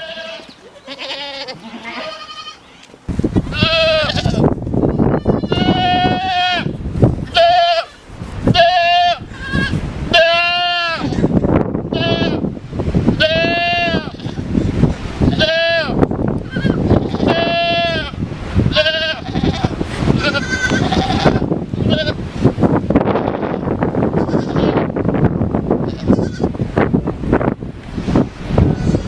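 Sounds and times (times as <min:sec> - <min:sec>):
goats bleating: 0:00.0 - 0:12.4, 0:13.1 - 0:14.5, 0:15.2 - 0:22.2, 0:23.2 - 0:24.8, 0:25.8 - 0:26.6, 0:28.6 - 0:29.0.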